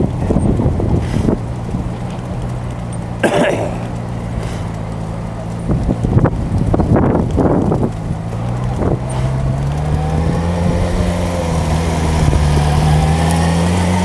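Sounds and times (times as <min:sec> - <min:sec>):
bicycles rolling over cobbles: 0:00.0 - 0:14.0
bike and camera rattling: 0:00.0 - 0:14.0
motor vehicle engine humming: 0:00.0 - 0:14.0.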